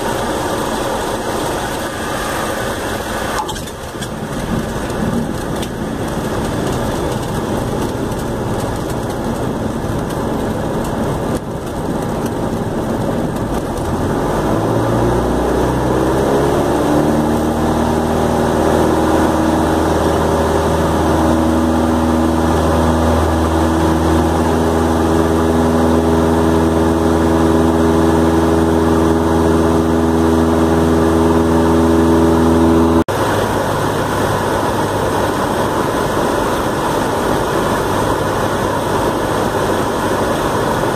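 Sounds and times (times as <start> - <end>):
propeller aircraft engine: 0.0 - 40.9.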